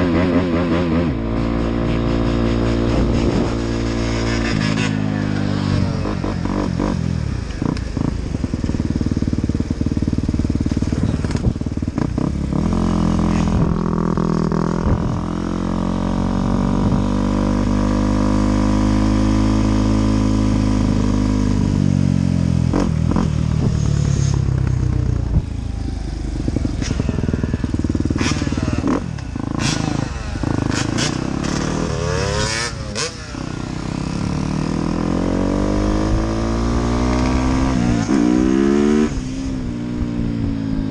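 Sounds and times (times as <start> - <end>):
dirt bike engine revving: 0.0 - 25.0, 26.5 - 40.9.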